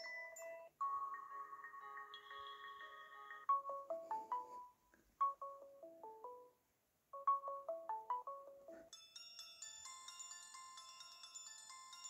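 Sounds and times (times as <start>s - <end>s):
ringtone from phone speaker: 0.0s - 6.5s, 7.2s - 12.0s.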